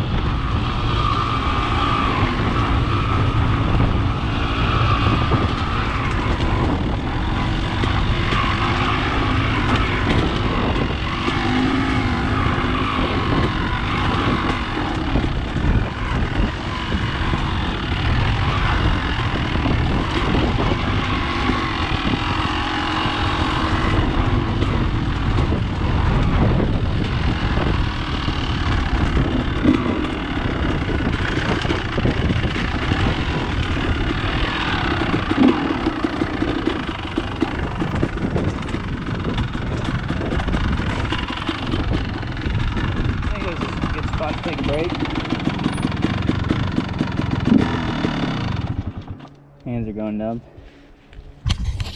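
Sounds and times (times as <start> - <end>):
dirt bike engine: 0.0 - 51.9.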